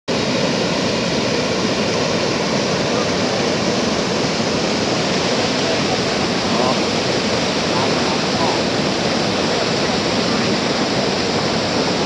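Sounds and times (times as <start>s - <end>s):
water rushing over weir: 0.1s - 12.0s.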